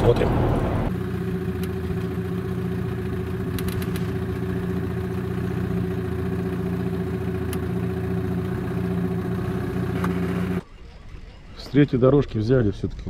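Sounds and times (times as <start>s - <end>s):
outboard motor running: 0.0s - 10.6s.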